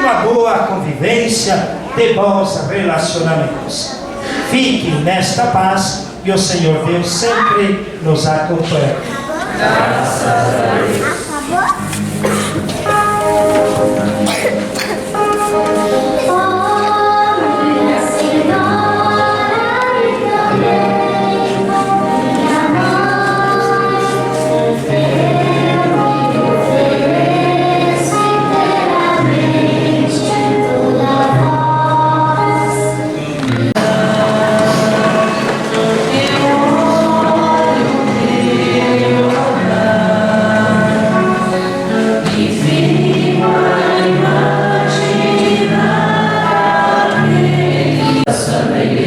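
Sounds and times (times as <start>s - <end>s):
choir and congregation singing a hymn: 0.0s - 49.0s
instrumental accompaniment with bass notes: 9.6s - 49.0s.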